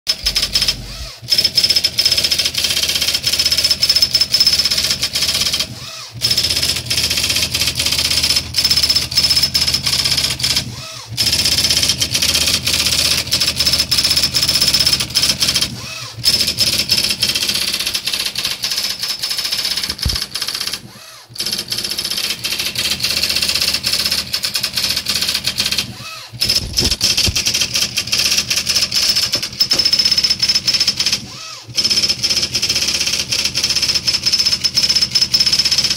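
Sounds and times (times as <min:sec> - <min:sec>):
typewriter hammer clatter: 0:00.1 - 0:35.9.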